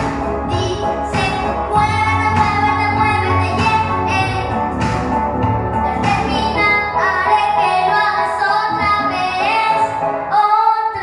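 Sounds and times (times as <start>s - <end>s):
boy singing pop song: 0.0s - 5.2s, 5.8s - 11.0s
backing track music: 0.0s - 11.0s.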